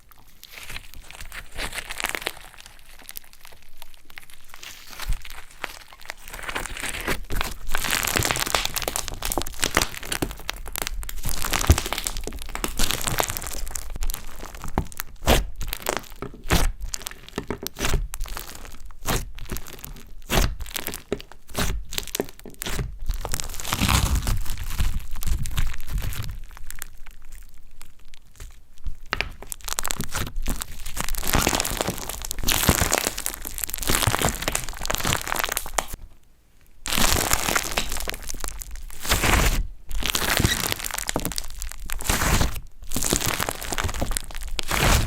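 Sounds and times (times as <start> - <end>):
slime squeezed by hand crackling: 0.0 - 36.0, 36.9 - 45.0.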